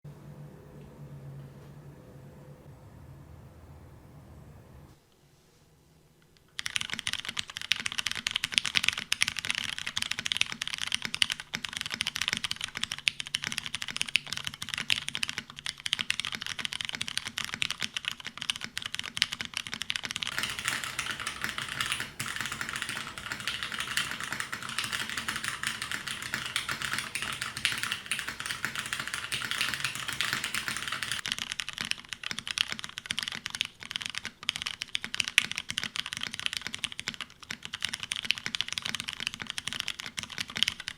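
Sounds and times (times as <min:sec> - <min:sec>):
fast mechanical keyboard typing: 0:06.5 - 0:40.9.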